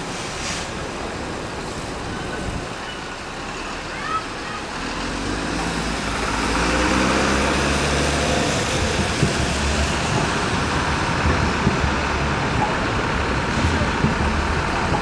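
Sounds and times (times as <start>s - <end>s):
bus engine rumble passing: 0.0s - 15.0s
city traffic noise: 0.0s - 15.0s.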